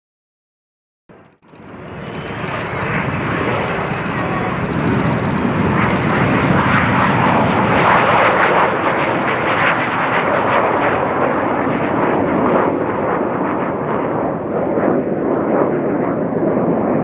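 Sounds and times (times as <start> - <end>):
jet engines roaring on takeoff: 1.1 - 17.0.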